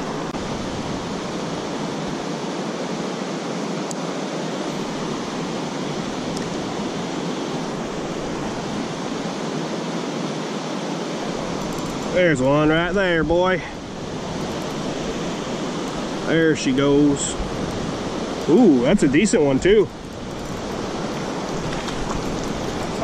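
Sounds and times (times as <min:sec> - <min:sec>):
stream flowing over rocks: 0:00.0 - 0:23.0.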